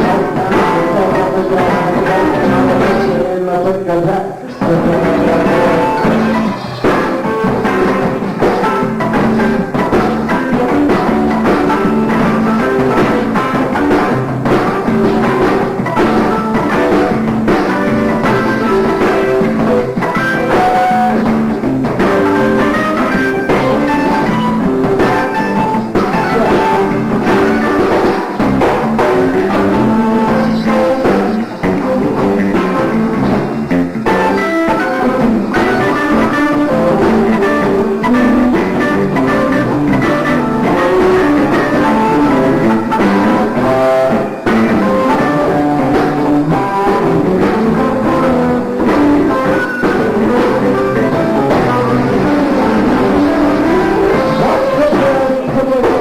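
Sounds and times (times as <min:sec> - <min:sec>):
live funk band playing: 0:00.0 - 0:56.0.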